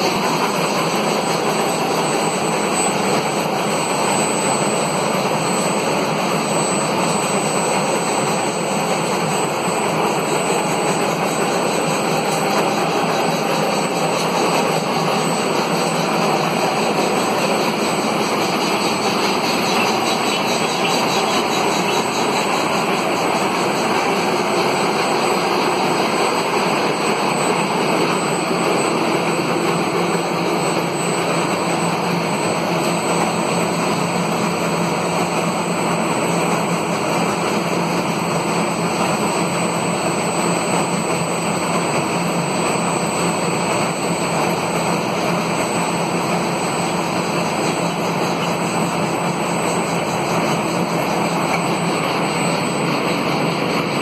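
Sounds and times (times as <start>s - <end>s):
faint high whine: 0.0s - 54.0s.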